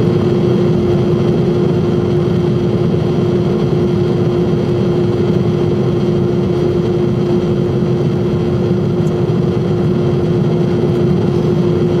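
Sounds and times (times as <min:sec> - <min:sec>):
constant low hum: 0:00.0 - 0:12.0
jet engine and airflow noise: 0:00.0 - 0:12.0.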